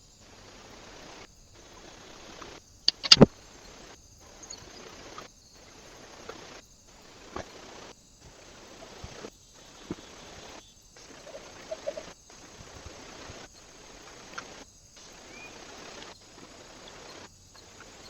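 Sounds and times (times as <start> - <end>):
microphone hiss: 0.0 - 18.0.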